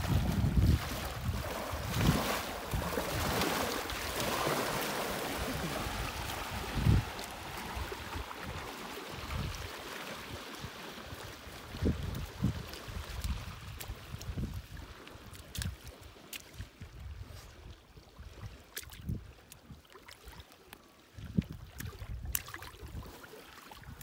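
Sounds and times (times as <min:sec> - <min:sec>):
small waves splashing: 0:00.0 - 0:24.0.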